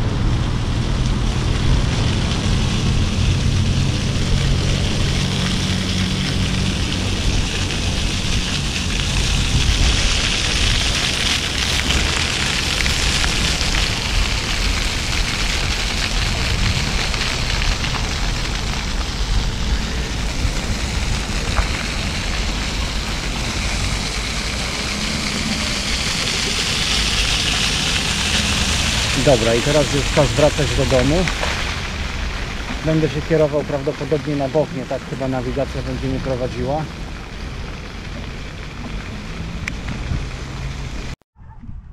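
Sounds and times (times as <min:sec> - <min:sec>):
wind on microphone: 0:00.0 - 0:33.0, 0:36.9 - 0:41.9
bicycle tyres rolling over paving: 0:00.0 - 0:41.2.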